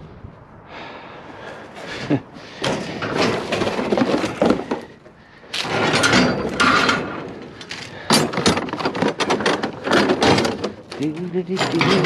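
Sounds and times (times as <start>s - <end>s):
scraping rattling handling noise: 1.8s - 12.0s
clanks: 1.9s - 12.0s.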